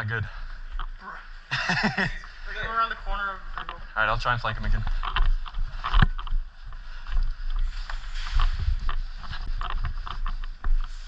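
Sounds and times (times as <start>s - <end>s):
footsteps: 0.2s - 11.0s.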